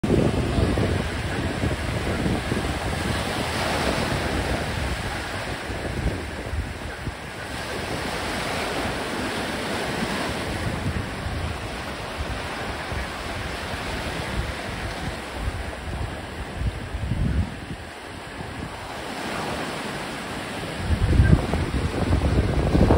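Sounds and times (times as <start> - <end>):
ocean surf breaking: 0.0 - 22.9
wind buffeting microphone: 0.0 - 22.9.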